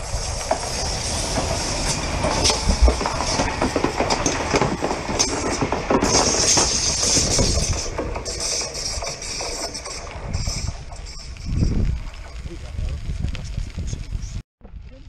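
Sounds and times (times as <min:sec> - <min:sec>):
train wheels clattering on rails: 0:00.0 - 0:12.6
steady rush of train noise: 0:00.0 - 0:14.4
wind buffeting microphone: 0:00.0 - 0:15.0.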